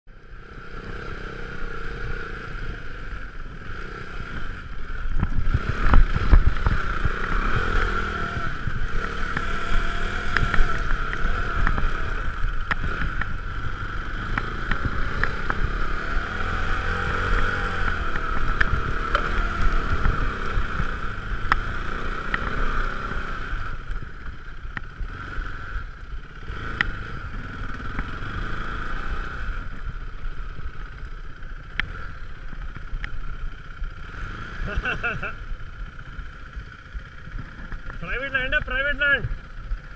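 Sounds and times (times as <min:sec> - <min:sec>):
motorcycle engine revving: 0:00.1 - 0:39.9
wind rushing over camera: 0:01.7 - 0:34.2
motorcycle jolting over bumps: 0:03.3 - 0:34.0, 0:34.6 - 0:39.9.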